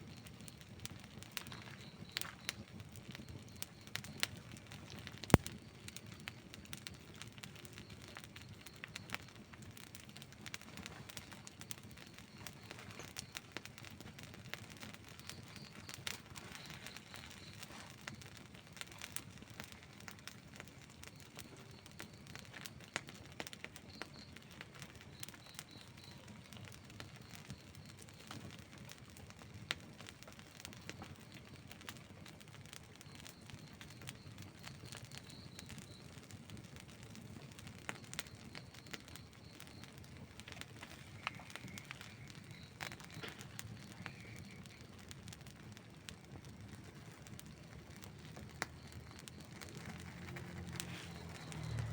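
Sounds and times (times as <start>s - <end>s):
wood fire crackling and popping: 0.0s - 51.9s.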